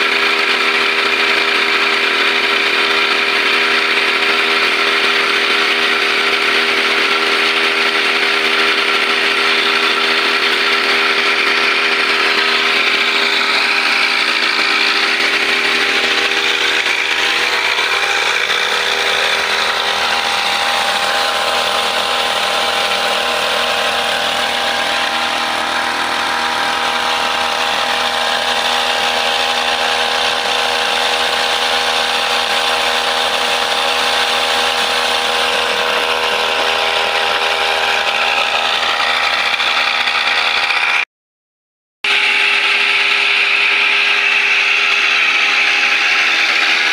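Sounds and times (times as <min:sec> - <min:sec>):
brush cutter engine running: 0:00.0 - 0:41.0, 0:42.1 - 0:46.9.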